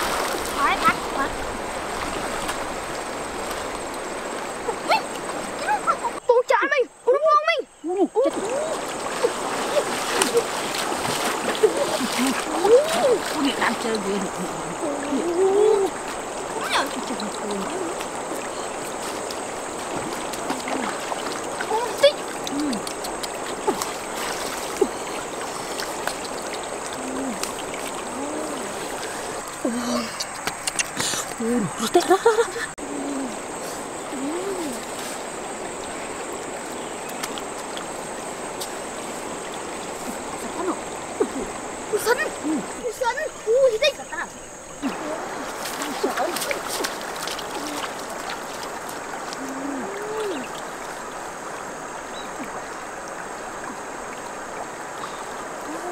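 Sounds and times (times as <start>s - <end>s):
flowing river water: 0.0s - 55.9s.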